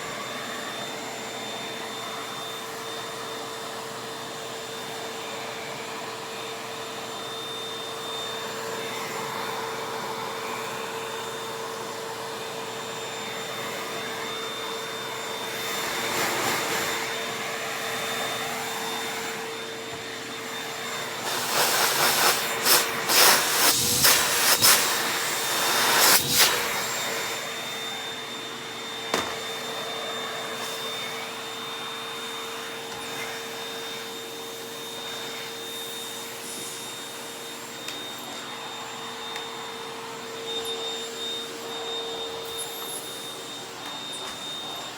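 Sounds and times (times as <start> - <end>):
vacuum cleaner whining: 0.0 - 44.9.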